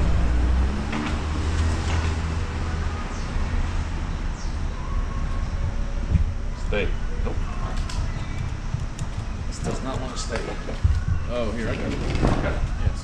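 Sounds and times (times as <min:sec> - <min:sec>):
engines and road traffic rumble: 0:00.0 - 0:13.0.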